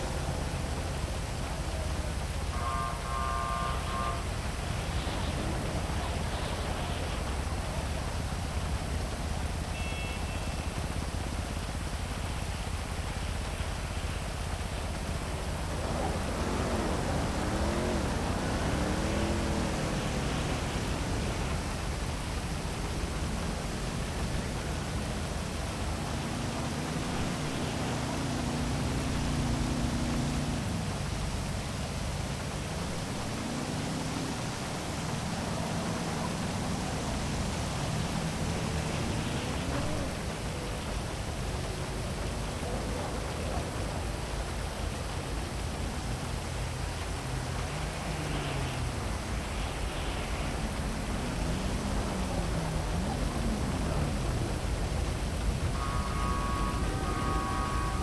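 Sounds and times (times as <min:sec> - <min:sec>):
car engines passing: 0:00.0 - 0:58.0
heavy rain: 0:00.0 - 0:58.0.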